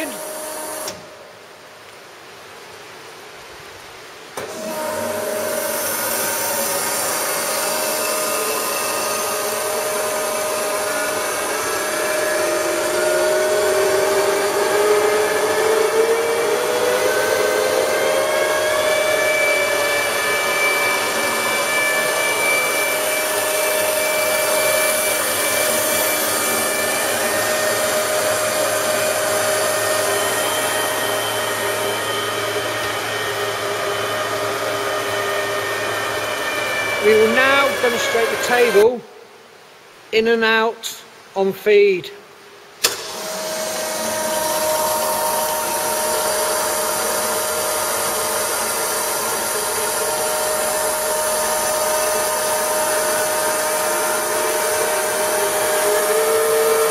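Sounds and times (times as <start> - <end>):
machine feed drive whining: 0.0 - 1.5, 4.4 - 38.9, 42.8 - 56.9.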